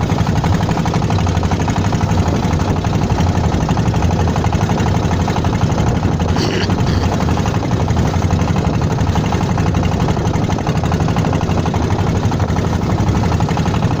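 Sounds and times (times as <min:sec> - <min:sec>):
motorboat engine chugging: 0:00.0 - 0:14.0.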